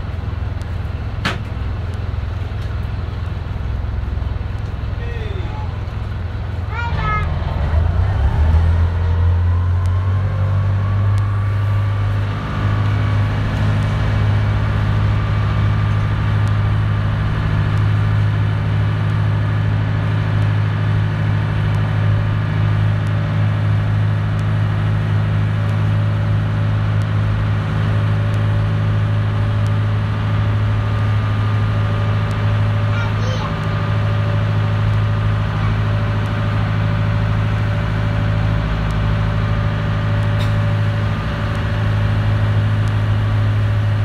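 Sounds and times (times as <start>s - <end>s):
boat engine droning: 0.0s - 44.0s.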